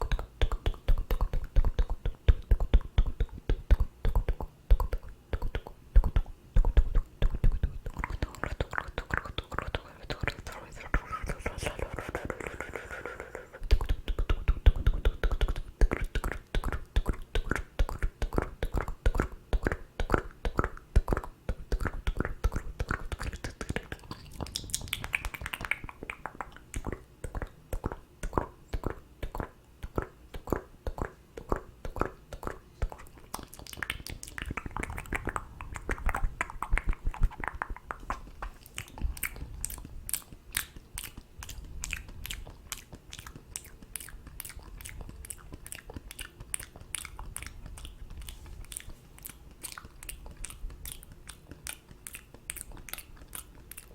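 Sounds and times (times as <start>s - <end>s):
wet lip and tongue clicks: 0.0s - 53.9s.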